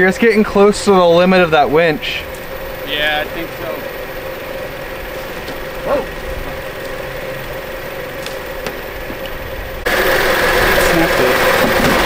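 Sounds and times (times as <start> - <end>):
loud rush of noise: 0.0 - 12.0
vehicle engine idling: 0.0 - 12.0.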